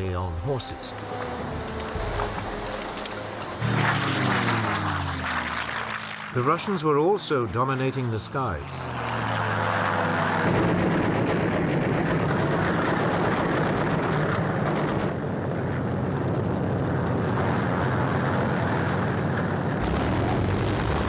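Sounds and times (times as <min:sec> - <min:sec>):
propeller aircraft engine drone: 0:00.0 - 0:21.0.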